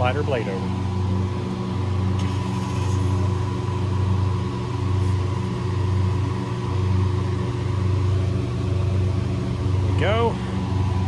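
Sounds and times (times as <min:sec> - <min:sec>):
low buzzy machinery hum: 0:00.0 - 0:11.0.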